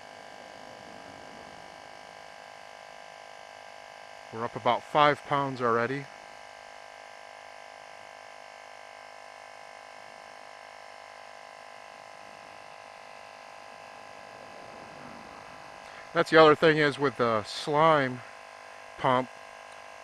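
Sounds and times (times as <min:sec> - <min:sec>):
electric tire inflator buzzing: 0:00.0 - 0:20.0.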